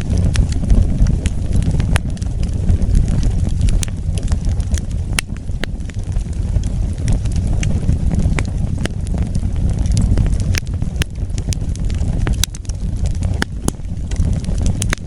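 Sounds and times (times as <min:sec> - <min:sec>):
burning wood crackling and popping: 0:00.0 - 0:15.0
flames roaring: 0:00.0 - 0:15.0.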